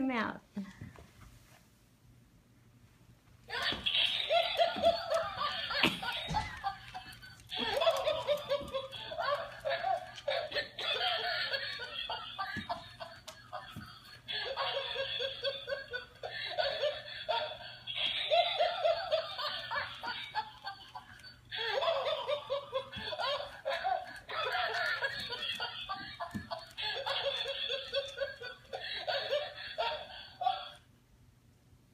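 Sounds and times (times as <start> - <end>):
toy electronic laugh: 3.5 - 30.8.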